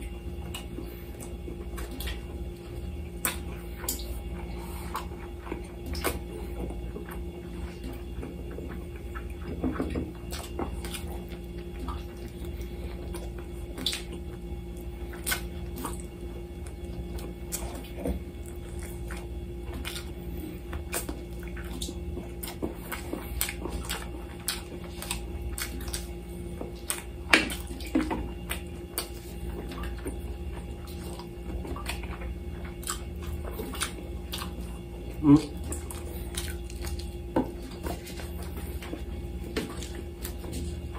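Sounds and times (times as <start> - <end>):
steady low hum: 0.0 - 40.9
wet chewing: 0.0 - 40.9.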